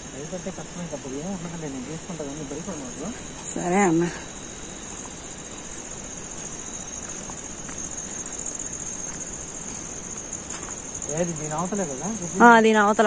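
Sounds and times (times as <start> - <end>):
crickets chirping: 0.0 - 13.0
low background hiss: 0.0 - 13.0.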